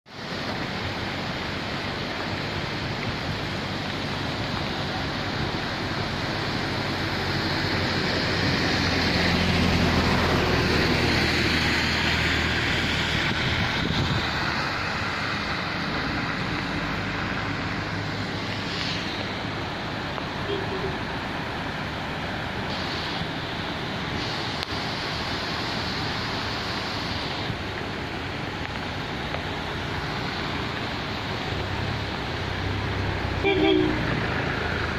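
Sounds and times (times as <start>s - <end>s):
floodwater rushing: 0.1s - 34.9s.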